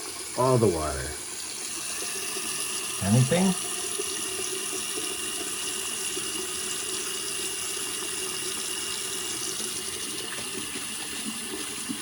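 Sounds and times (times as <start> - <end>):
faucet running into sink: 0.0 - 12.0
water draining: 0.0 - 12.0.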